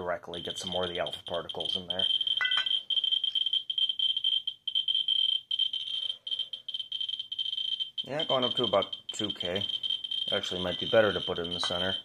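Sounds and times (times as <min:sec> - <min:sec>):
geiger counter clicking rapidly: 0:00.3 - 0:12.0.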